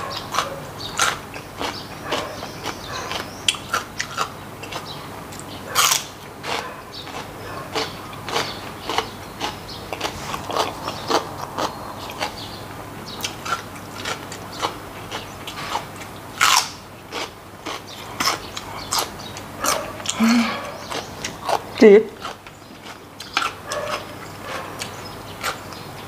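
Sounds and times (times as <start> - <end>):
crunching raw vegetable: 0.1 - 25.8.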